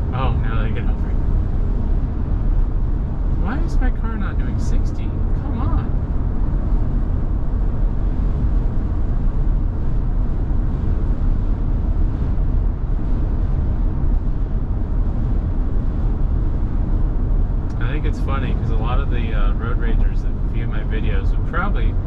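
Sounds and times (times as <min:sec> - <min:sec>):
road and wind noise in car: 0:00.0 - 0:22.0.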